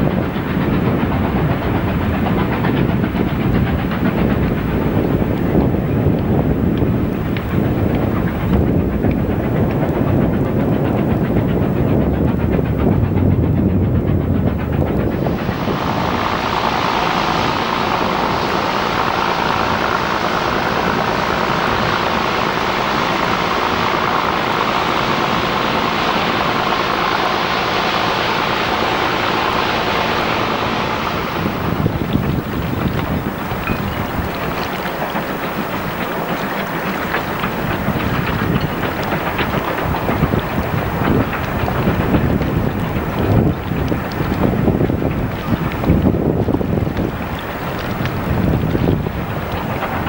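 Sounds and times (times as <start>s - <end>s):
boat engine running: 0.0s - 50.0s
propeller wash foaming: 0.0s - 50.0s
train coaches rumbling: 0.0s - 50.0s.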